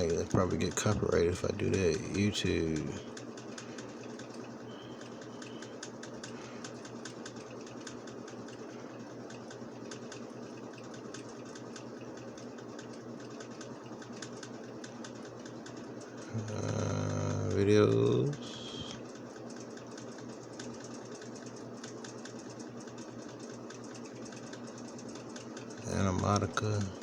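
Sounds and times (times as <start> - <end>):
fast clicking of computer controls: 0.0 - 27.0
steady low hum: 0.0 - 27.0.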